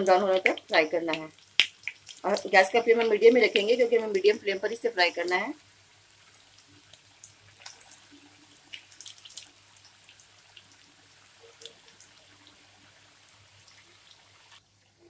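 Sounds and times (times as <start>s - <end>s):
oil crackling and popping: 0.0s - 14.6s
patties sizzling in oil: 0.0s - 15.0s.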